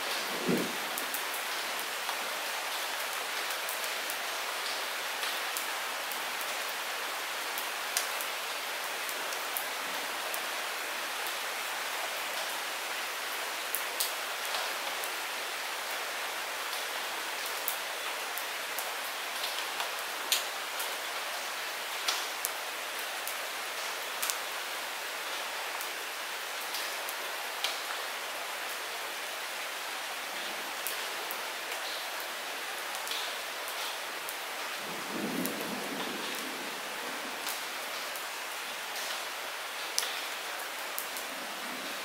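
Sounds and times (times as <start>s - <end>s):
light rain falling: 0.0s - 42.0s.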